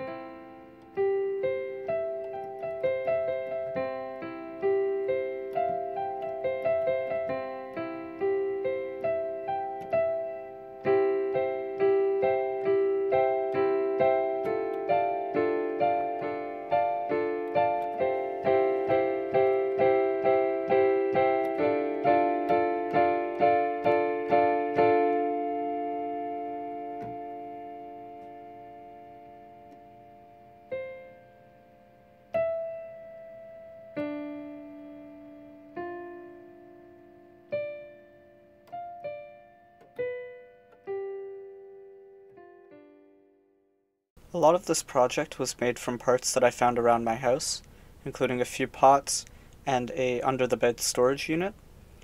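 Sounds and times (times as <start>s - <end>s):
piano music: 0.0s - 49.1s.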